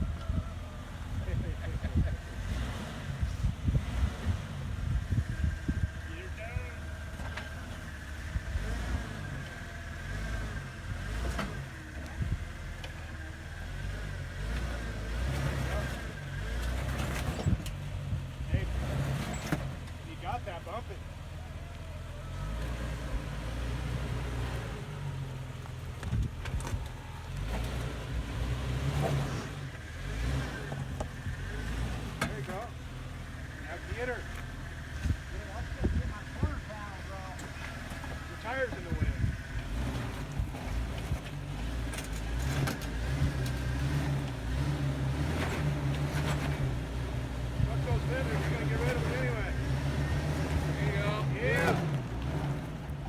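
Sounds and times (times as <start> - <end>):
car engine running unevenly: 0.0 - 53.0.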